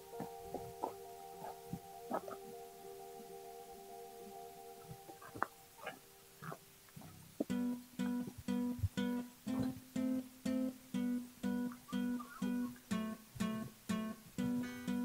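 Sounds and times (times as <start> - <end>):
guitar strumming chords: 0.0 - 15.0.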